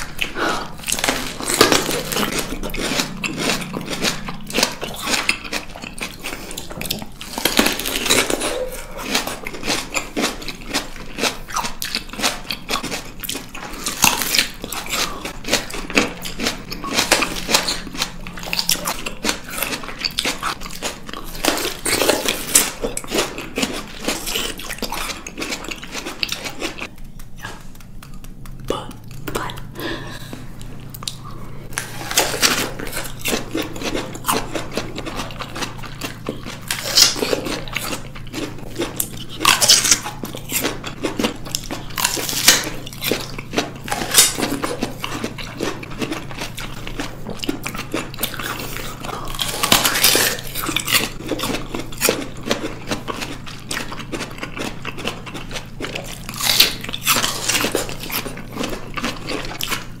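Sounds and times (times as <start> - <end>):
chewing: 0.0 - 60.0
crunching bites of peaches: 0.0 - 60.0.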